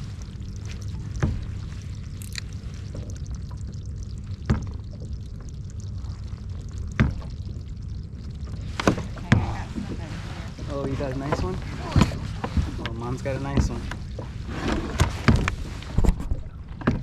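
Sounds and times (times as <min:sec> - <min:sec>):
low steady rumble: 0:00.0 - 0:17.0
water lapping against boat hull: 0:00.0 - 0:17.0.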